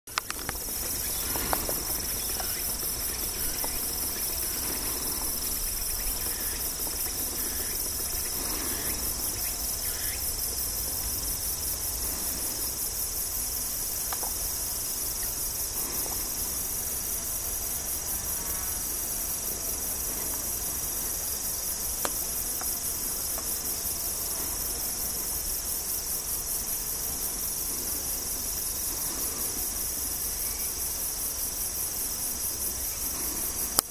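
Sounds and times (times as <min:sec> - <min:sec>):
insects trilling: 0:00.1 - 0:33.9.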